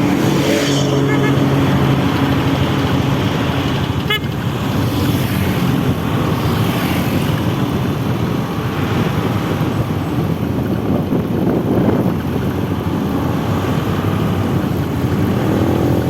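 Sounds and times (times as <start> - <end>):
heavy truck engine running: 0.0 - 16.0
road traffic noise: 0.0 - 16.0.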